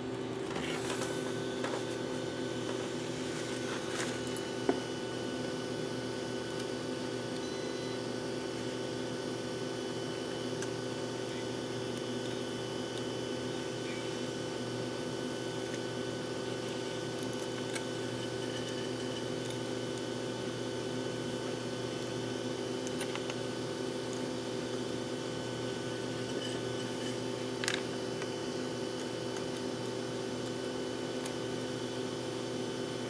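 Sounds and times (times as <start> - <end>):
steady machine hum: 0.0 - 33.0.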